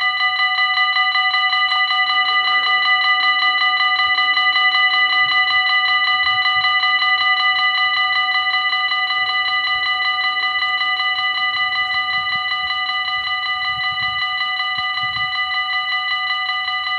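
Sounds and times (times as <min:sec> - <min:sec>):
level crossing warning bells: 0:00.0 - 0:16.9.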